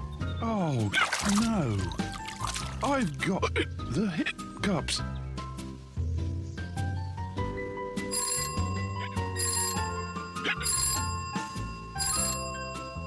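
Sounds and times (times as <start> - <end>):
cartoon background music: 0.0 - 13.0.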